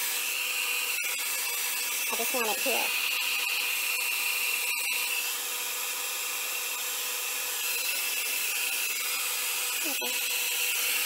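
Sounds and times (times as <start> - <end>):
blow dryer running: 0.0 - 11.0.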